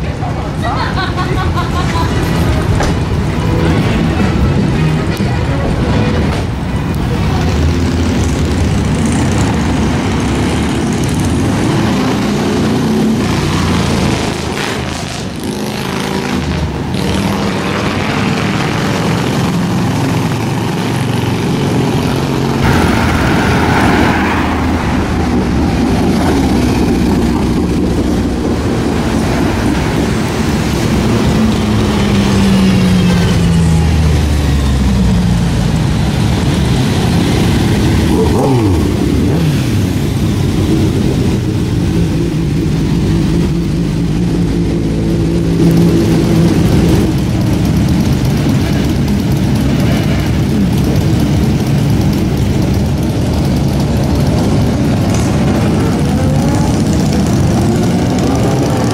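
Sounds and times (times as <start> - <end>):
engines revving: 0.0 - 58.9
motorcycles passing by: 0.0 - 58.9
rumble of engines: 0.0 - 58.9.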